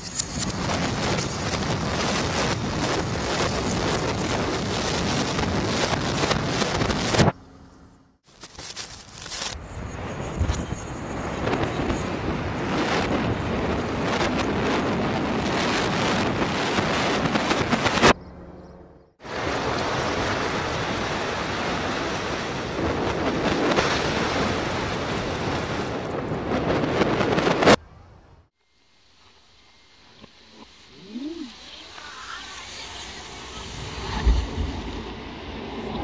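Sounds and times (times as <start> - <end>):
reversed collapsing masonry rumble: 0.2 - 8.2, 9.6 - 27.8, 32.5 - 36.0.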